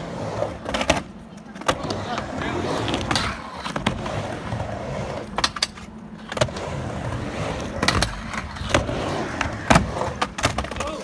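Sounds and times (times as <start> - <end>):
skateboard rolling on wooden ramp: 0.0 - 11.0.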